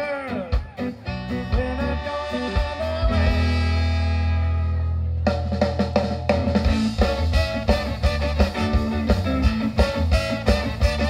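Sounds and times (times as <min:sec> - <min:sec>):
live ska band playing: 0:00.0 - 0:11.0.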